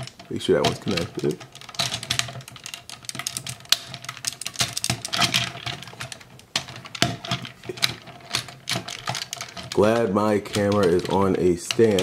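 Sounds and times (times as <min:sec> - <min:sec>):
plastic toy parts clicking: 0:00.0 - 0:12.0.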